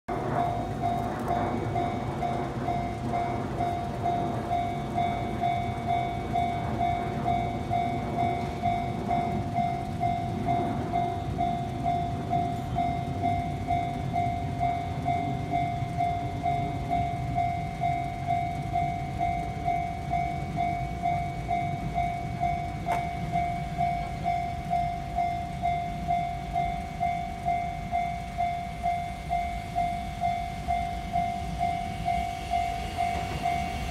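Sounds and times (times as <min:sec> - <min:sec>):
electric train rumbling: 0:00.1 - 0:33.9
level crossing bell ringing: 0:01.7 - 0:33.9.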